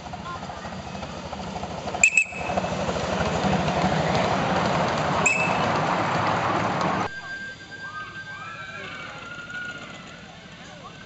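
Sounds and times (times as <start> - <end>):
miniature steam train passing: 0.0 - 11.0
high-pitched squeals: 1.9 - 11.0.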